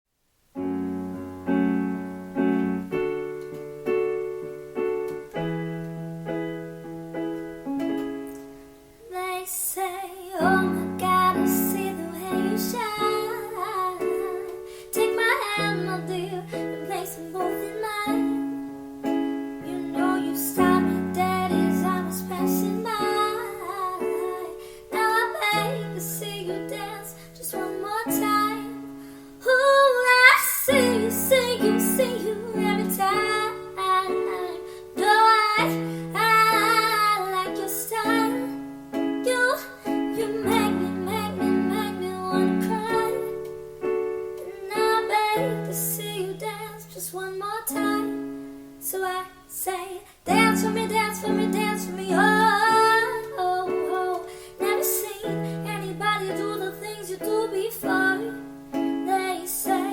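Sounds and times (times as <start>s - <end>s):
piano chords: 0.4s - 59.9s
woman singing: 9.0s - 59.9s.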